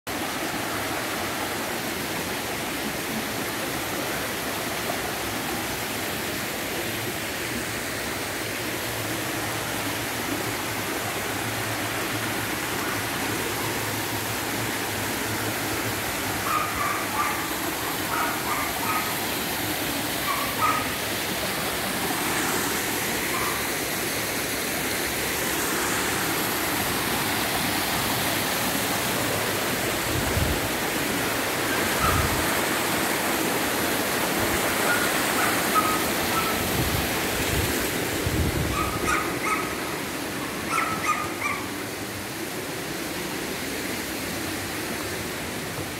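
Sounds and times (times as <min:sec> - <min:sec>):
waterfall rushing over rocks: 0:00.1 - 0:45.9.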